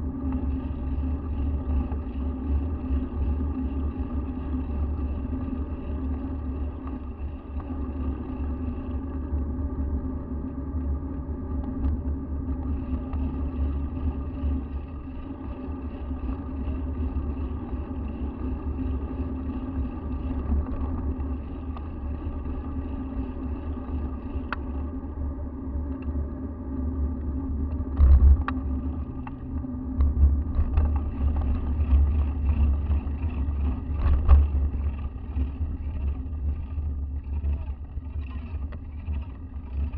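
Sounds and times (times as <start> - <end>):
constant hum: 0.0 - 39.9
wind and road rumble: 0.0 - 39.9.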